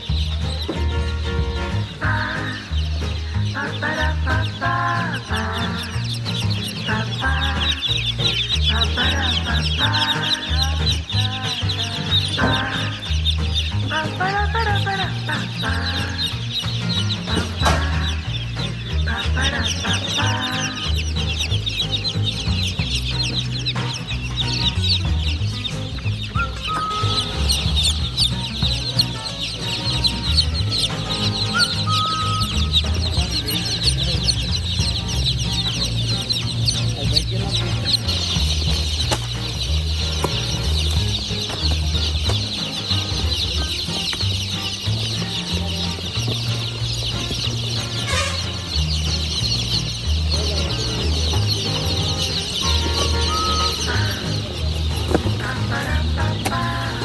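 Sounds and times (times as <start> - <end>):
background music with bass line: 0.0 - 57.0
chicks peeping: 0.0 - 57.0.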